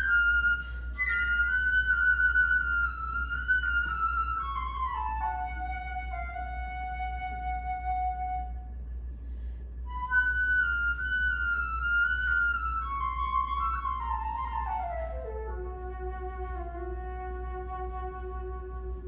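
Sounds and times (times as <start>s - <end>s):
solo flute melody: 0.0s - 8.8s, 9.8s - 19.0s
steady low hum: 0.0s - 19.0s.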